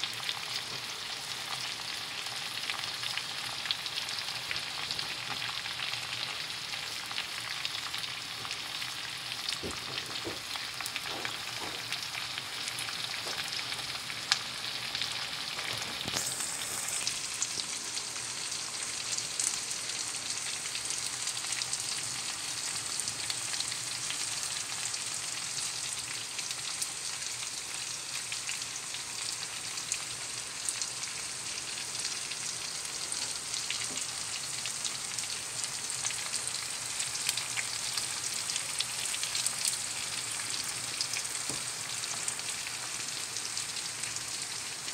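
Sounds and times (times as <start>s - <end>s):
food sizzling in frying pan: 0.0s - 44.9s
small pops of frying: 0.1s - 44.9s.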